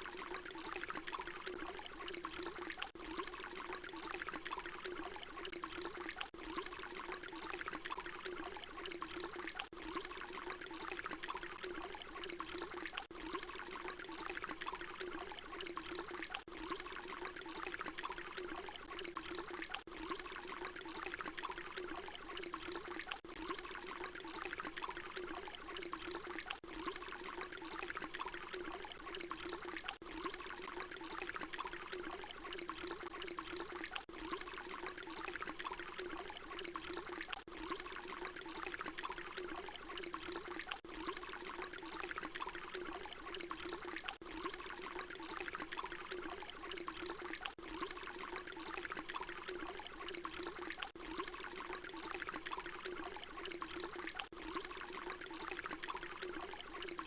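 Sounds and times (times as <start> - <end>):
water pouring: 0.0 - 57.0.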